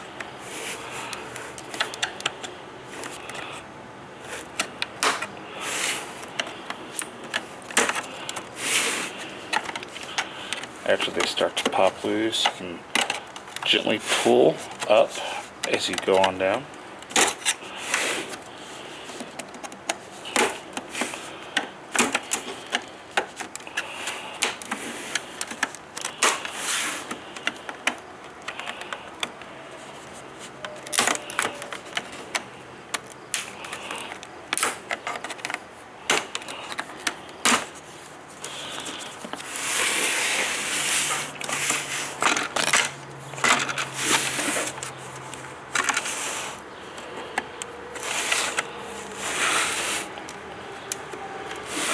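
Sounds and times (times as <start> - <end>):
plastic scraping: 0.4 - 51.9.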